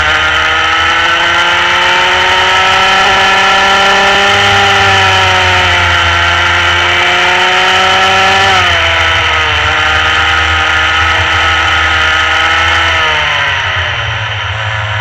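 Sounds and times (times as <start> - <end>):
kart engine revving: 0.0 - 15.0.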